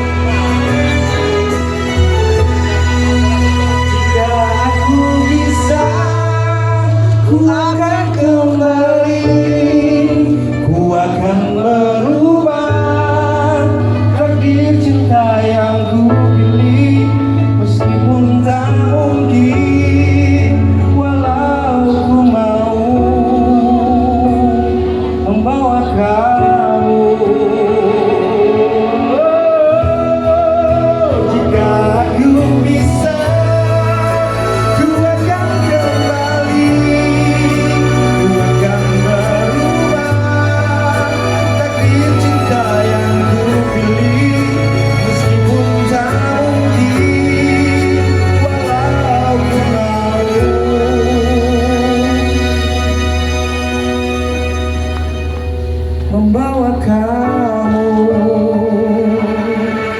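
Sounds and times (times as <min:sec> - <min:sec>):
instrumental accompaniment: 0:00.0 - 0:59.9
person singing with vibrato: 0:00.0 - 0:59.9
steady bass line: 0:00.0 - 0:59.9.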